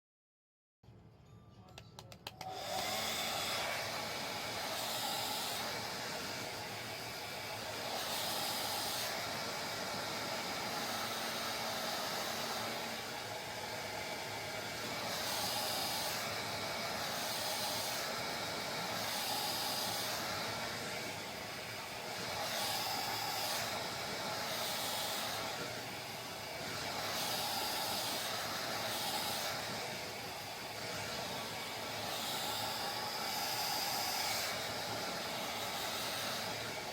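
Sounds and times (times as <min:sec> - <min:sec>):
hair dryer blowing air: 0:02.2 - 0:36.9.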